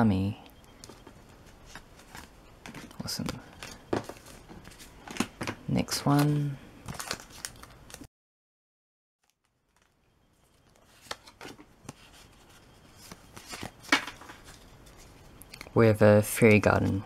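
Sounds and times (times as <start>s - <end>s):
rustling of trading cards: 0.6s - 8.1s, 9.2s - 15.7s.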